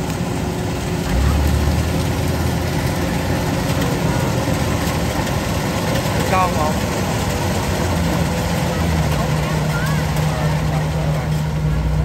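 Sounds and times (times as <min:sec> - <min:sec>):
clatter of threshing machinery: 0:00.0 - 0:12.0
combine harvester diesel engine: 0:00.0 - 0:12.0.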